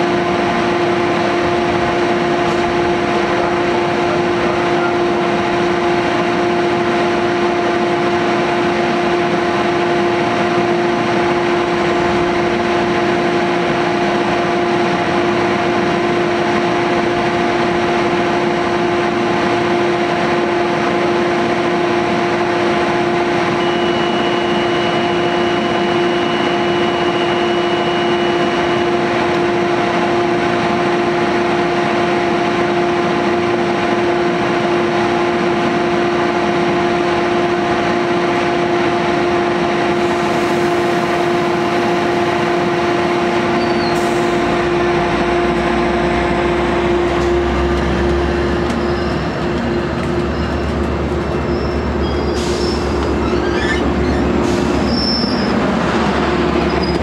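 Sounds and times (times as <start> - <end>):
train machinery humming: 0.0 - 57.0.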